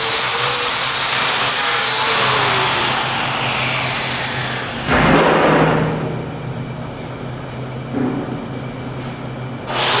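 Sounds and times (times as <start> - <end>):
machinery hum: 0.0 - 10.0.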